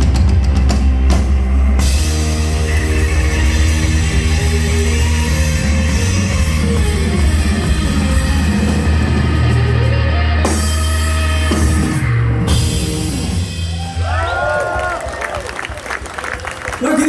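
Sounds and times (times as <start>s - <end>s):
electric guitar: 0.0s - 14.7s
live rock band playing: 0.0s - 17.0s.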